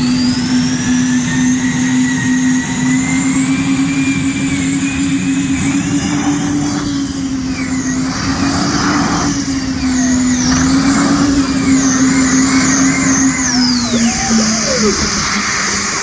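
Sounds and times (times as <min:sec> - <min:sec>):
high wavering whine: 0:00.0 - 0:16.0.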